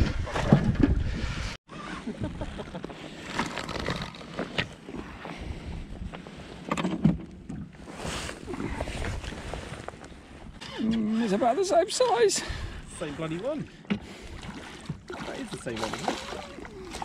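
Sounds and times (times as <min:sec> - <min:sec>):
water: 0:00.0 - 0:17.0.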